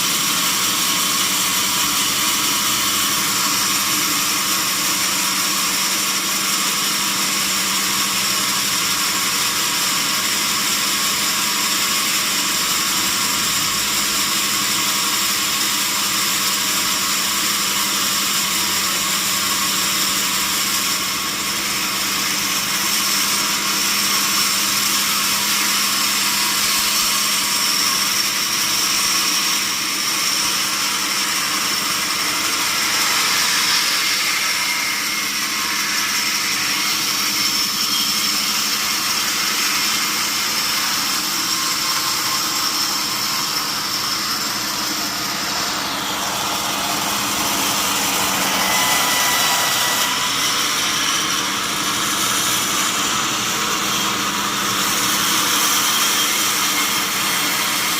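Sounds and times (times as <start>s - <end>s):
sawmill saw cutting log: 0.0s - 57.9s.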